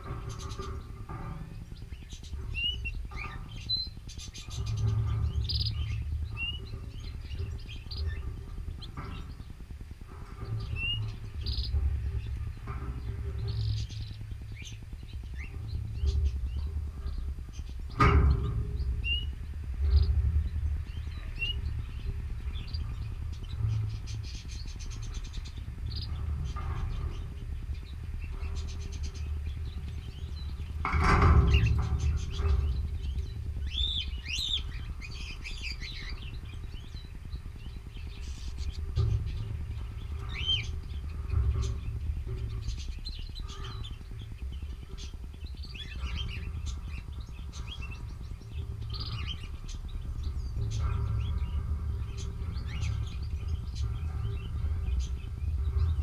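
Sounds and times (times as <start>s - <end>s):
canaries chirping: 0.0s - 56.0s
steady low rumble: 0.0s - 56.0s.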